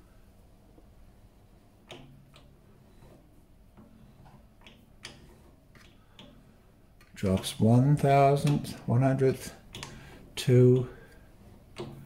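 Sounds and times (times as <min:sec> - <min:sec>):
lathe carriage clicks and ticks: 0:01.8 - 0:12.0.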